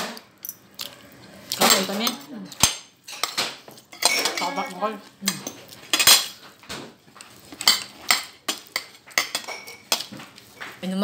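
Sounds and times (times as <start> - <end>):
cutlery clinking on plates: 1.6 - 10.8.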